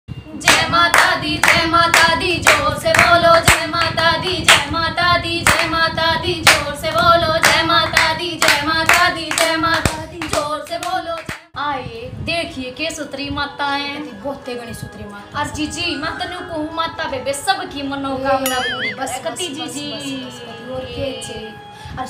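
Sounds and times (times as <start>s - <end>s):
women singing devotional song: 0.2s - 22.0s.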